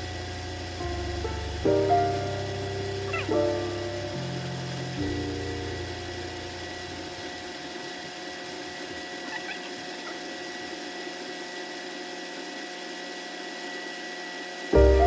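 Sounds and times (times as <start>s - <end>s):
small motor humming and whining: 0.0s - 14.8s.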